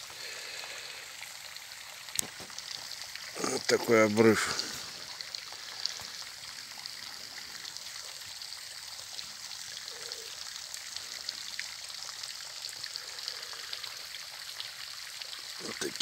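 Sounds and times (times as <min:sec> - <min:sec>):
soft rushing water: 0:00.0 - 0:16.0.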